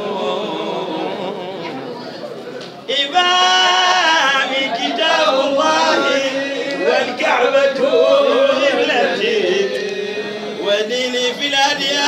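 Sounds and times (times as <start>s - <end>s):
men chanting: 0.0s - 1.5s, 2.9s - 12.0s.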